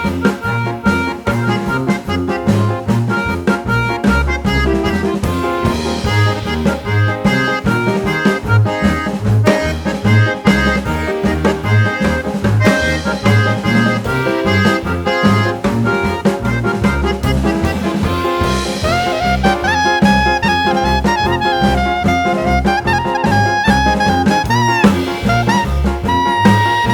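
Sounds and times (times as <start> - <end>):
jazz instrumental music: 0.0 - 26.9.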